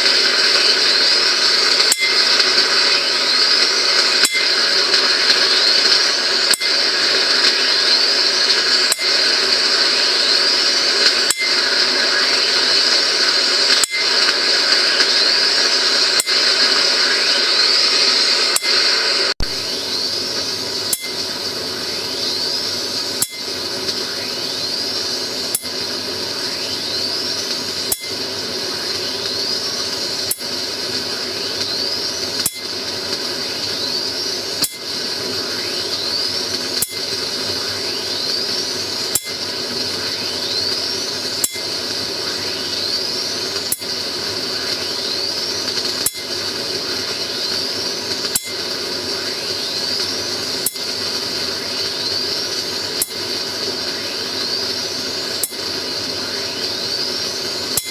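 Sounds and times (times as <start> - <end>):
capacitor charging whine: 0.0 - 57.9
steady hiss and hum: 0.0 - 57.9.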